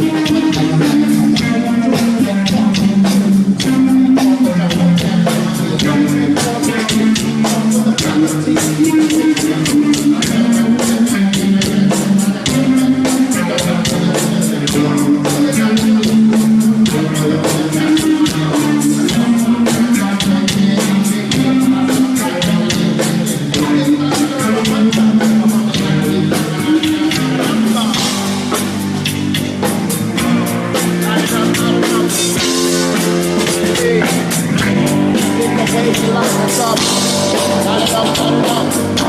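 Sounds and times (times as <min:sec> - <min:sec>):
bass guitar: 0:00.0 - 0:39.0
drum kit beat: 0:00.0 - 0:39.0
electric guitar riff: 0:00.0 - 0:39.0.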